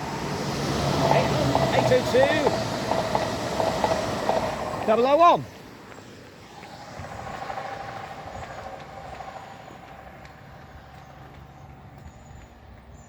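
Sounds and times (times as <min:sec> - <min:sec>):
train passing with whine: 0:00.0 - 0:13.0.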